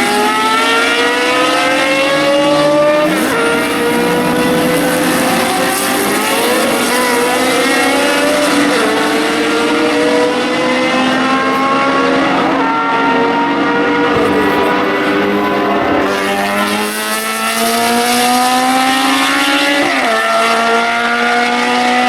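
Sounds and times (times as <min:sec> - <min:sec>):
race cars accelerating: 0:00.0 - 0:22.0.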